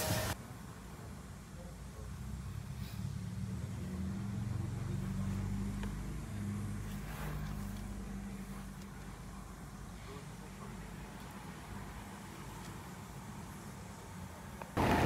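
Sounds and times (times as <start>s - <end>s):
car engine idling: 1.1s - 15.0s.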